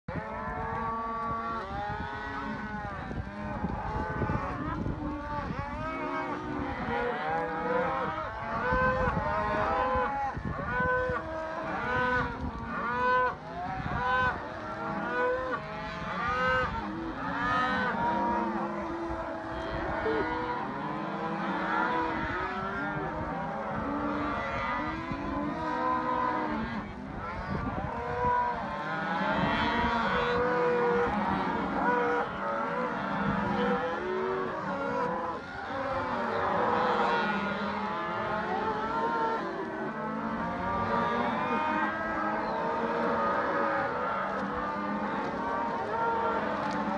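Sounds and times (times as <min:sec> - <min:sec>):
cattle bawling and mooing: 0:00.1 - 0:46.9.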